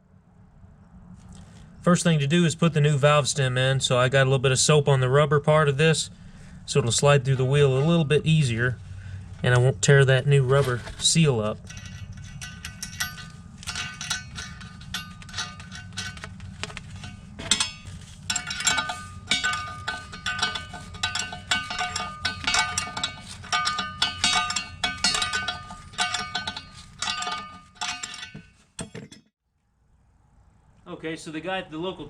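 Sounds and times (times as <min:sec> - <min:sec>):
steady low hum: 0:00.0 - 0:31.7.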